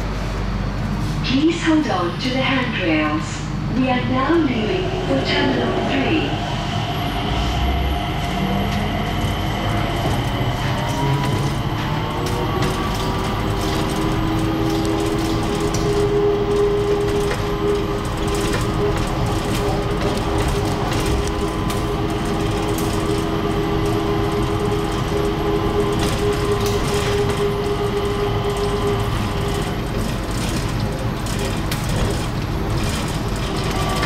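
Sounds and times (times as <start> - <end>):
steady humming tones: 0.0 - 34.0
train rumble: 0.0 - 34.0.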